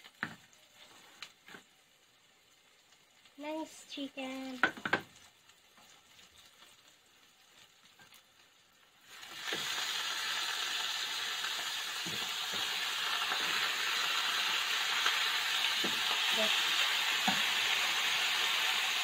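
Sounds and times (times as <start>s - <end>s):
meat sizzling in a pan: 0.0s - 19.0s.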